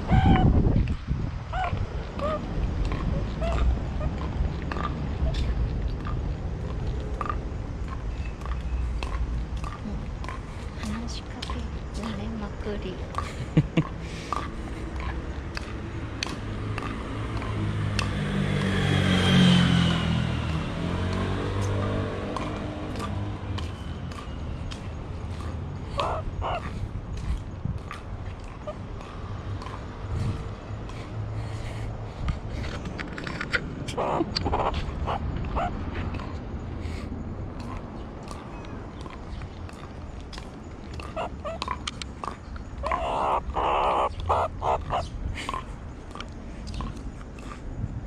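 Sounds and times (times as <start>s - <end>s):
vehicle passing by: 0.0s - 48.0s.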